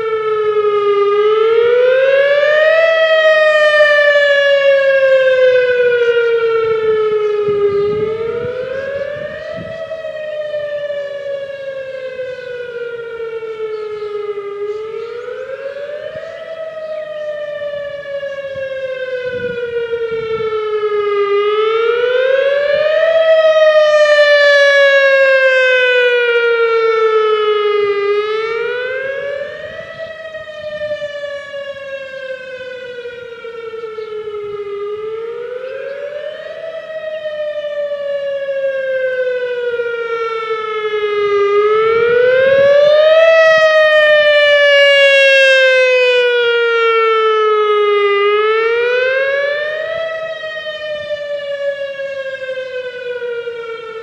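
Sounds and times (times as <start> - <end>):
electronic warning siren rising and falling: 0.0 - 54.0.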